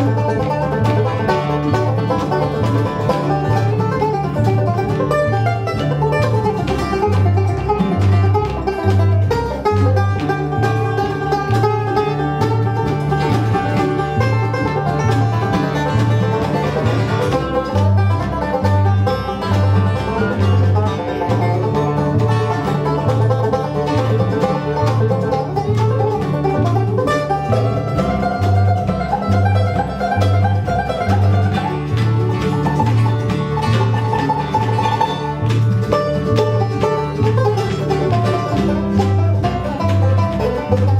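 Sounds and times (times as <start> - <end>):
banjo picking: 0.0 - 40.9
bass beat: 0.0 - 40.9
bluegrass band playing: 0.0 - 40.9.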